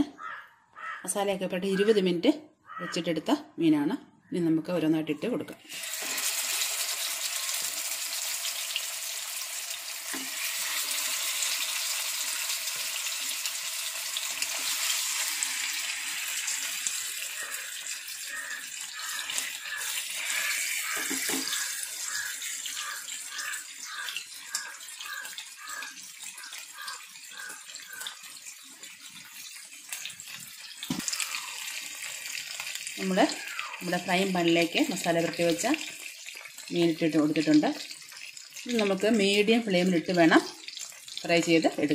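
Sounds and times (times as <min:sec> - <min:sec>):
fish sizzling in hot oil: 0:05.7 - 0:41.9.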